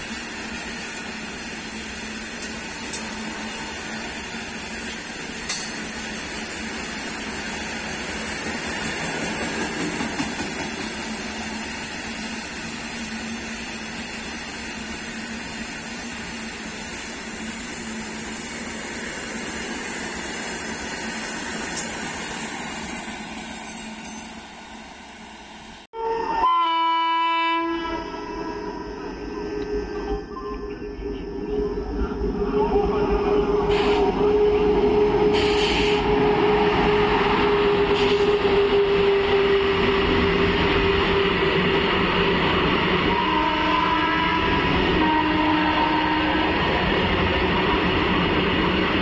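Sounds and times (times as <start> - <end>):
electric locomotive hum: 0.0 - 49.0.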